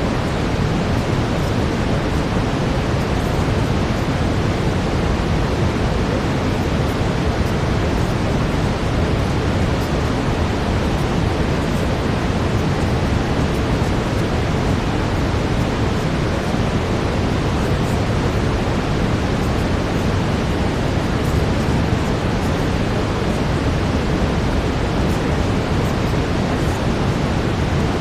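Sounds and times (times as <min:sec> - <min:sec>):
steady brown noise hiss: 0:00.0 - 0:28.0.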